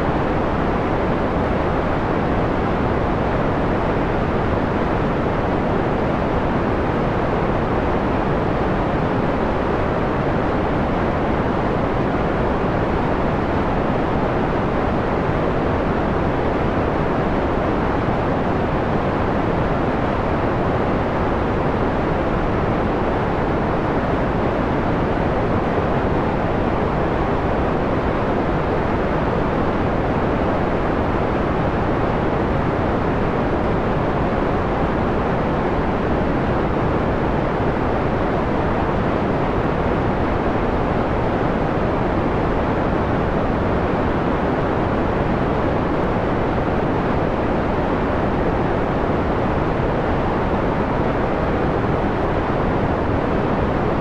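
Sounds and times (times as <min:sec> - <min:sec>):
filtered white noise rush: 0:00.0 - 0:54.0.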